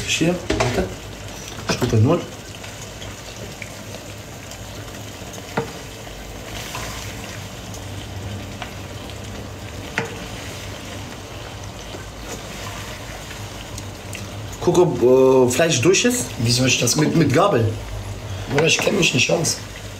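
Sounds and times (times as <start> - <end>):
low sizzle: 0.0 - 19.9
spoons stirring pasta in a pan: 0.5 - 19.9.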